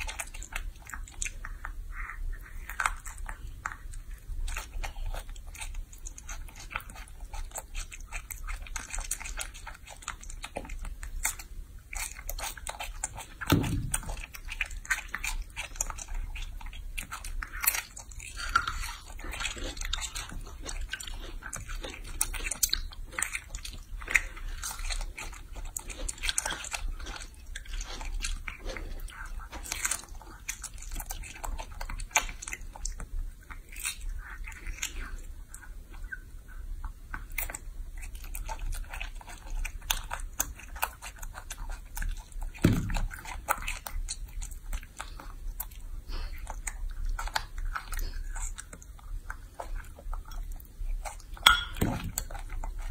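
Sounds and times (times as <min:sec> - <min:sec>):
monkey chewing fruit: 0:00.0 - 0:52.9.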